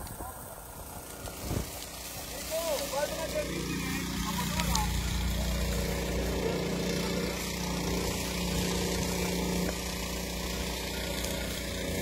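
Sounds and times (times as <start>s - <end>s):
engine running steadily: 0.1s - 12.0s.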